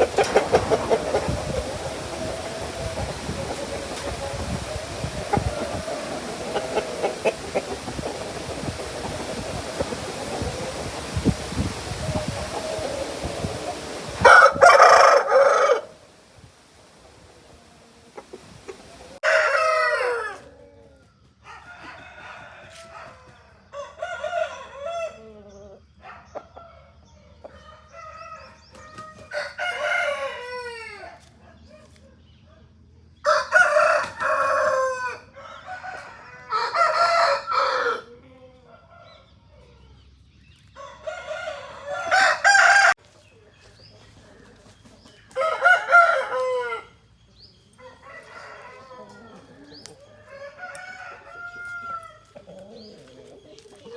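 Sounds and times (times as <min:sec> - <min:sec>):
roosters crowing: 0:00.0 - 0:31.4, 0:33.2 - 0:39.3, 0:40.7 - 0:43.0, 0:44.2 - 0:53.9.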